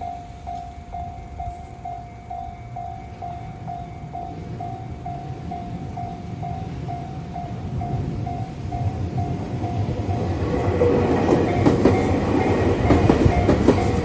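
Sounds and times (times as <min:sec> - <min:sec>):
low train rumble: 0:00.0 - 0:14.0
railroad crossing bell dinging: 0:00.0 - 0:14.0.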